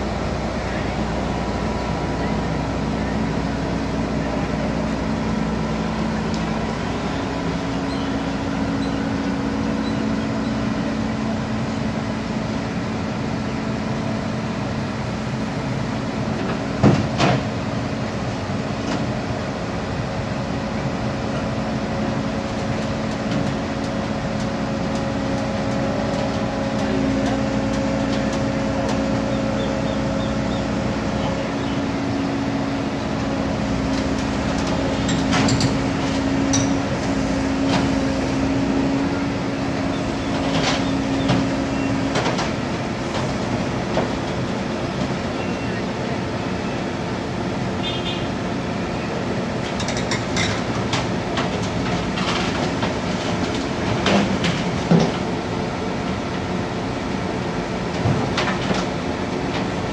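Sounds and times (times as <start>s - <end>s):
diesel excavator engine under load: 0.0s - 59.9s.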